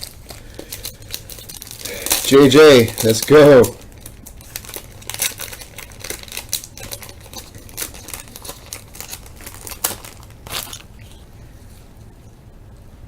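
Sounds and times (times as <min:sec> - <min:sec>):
foil wrapper and cards crinkling: 0:00.0 - 0:11.2.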